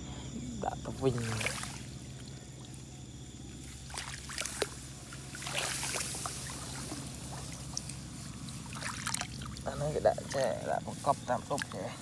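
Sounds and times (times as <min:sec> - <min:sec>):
muddy water splashing: 0:00.9 - 0:12.0.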